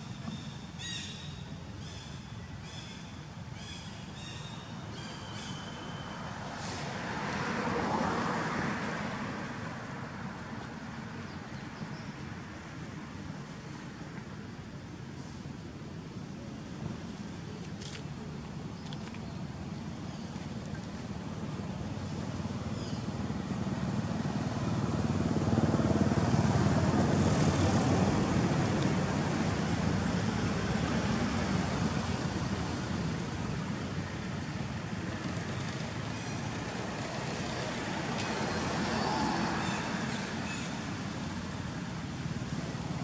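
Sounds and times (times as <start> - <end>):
traffic passing by: 0.0 - 43.0.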